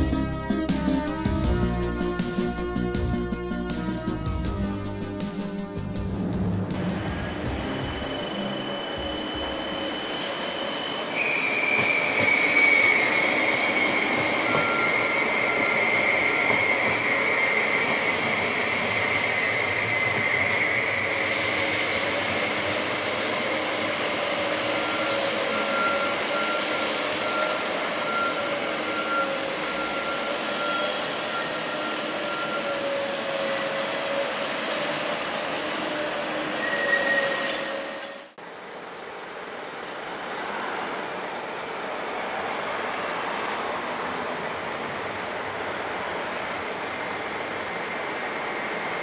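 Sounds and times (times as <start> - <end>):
tram running with whine: 0.0 - 49.0.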